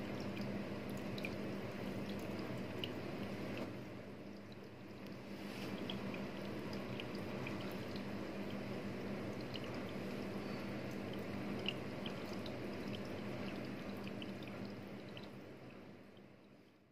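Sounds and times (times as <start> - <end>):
aquarium water trickling: 0.0 - 16.9
low steady hum: 0.0 - 16.9.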